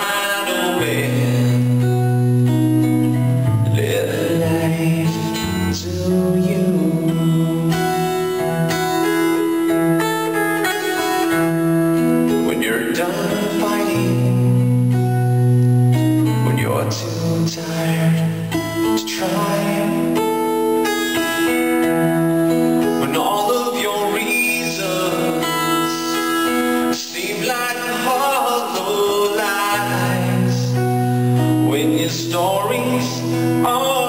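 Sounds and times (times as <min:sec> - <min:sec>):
man singing: 0:00.0 - 0:14.9, 0:15.9 - 0:34.0
strummed acoustic guitar: 0:00.0 - 0:34.0.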